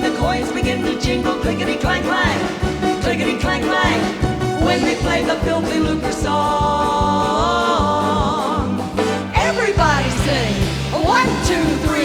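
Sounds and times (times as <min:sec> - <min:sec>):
live band with steady beat: 0:00.0 - 0:12.0
women singing in harmony: 0:00.0 - 0:12.0.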